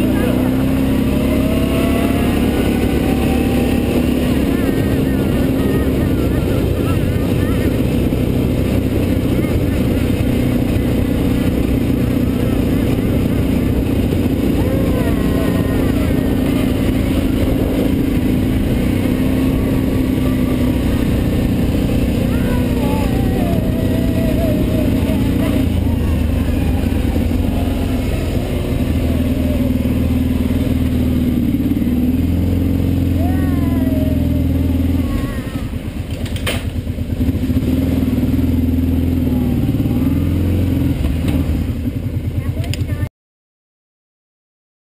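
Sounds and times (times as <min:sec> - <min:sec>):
quad bike engine running: 0:00.0 - 0:43.1.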